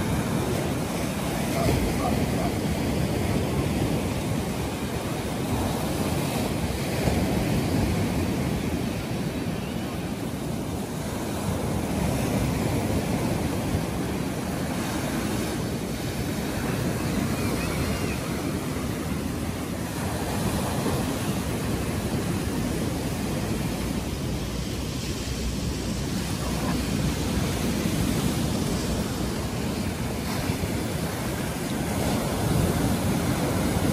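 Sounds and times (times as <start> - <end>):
small waves breaking on beach: 0.0 - 33.9.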